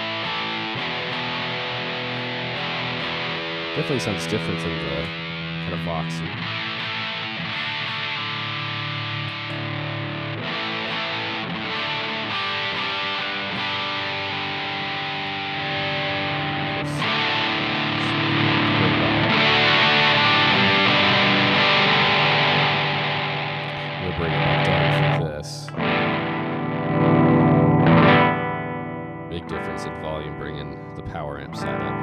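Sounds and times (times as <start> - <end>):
overdriven electric guitar chords: 0.0 - 32.0.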